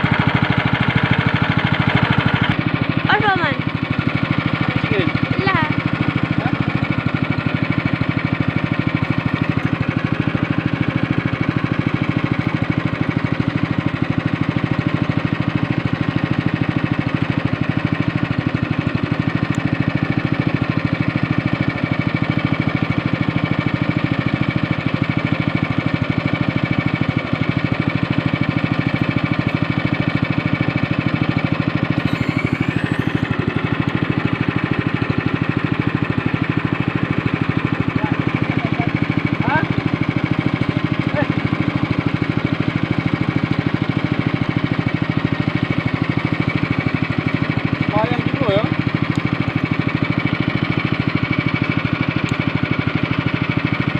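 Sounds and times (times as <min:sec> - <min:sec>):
outboard engine running: 0:00.0 - 0:53.9.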